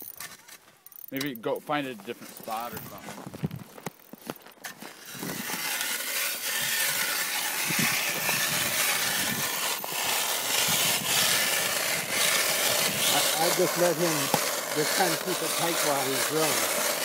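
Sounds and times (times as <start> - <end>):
ice auger rasping through ice: 0.0 - 17.0.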